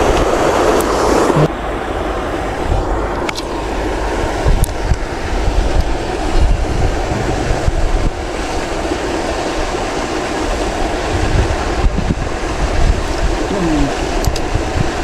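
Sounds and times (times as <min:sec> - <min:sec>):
wind buffeting microphone: 0:02.2 - 0:15.0.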